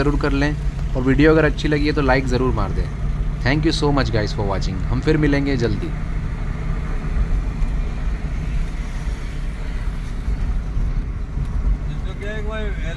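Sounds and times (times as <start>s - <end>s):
car engine and road rumble: 0.0s - 12.9s.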